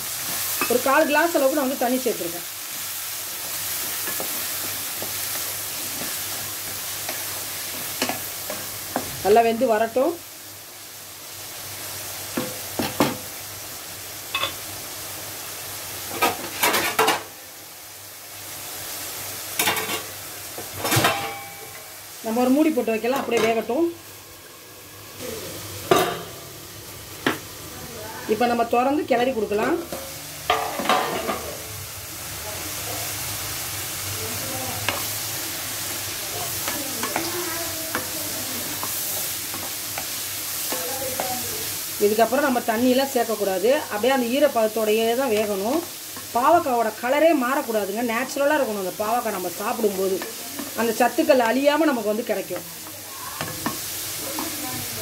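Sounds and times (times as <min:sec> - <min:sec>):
vegetables sizzling in a pan: 0:00.0 - 0:55.0.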